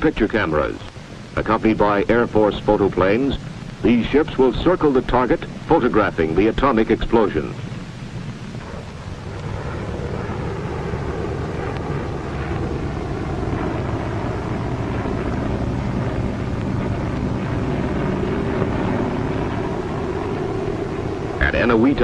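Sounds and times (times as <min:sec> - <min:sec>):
propeller engines droning: 0:00.0 - 0:22.0
windy rush: 0:00.0 - 0:22.0.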